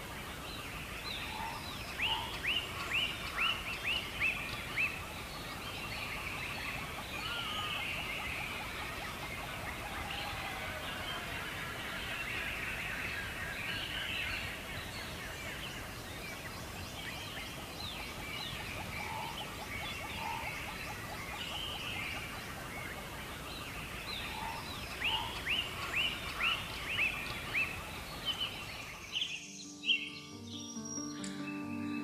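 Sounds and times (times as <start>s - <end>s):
steady background hiss: 0.0s - 32.0s
wild birds singing: 0.0s - 32.0s.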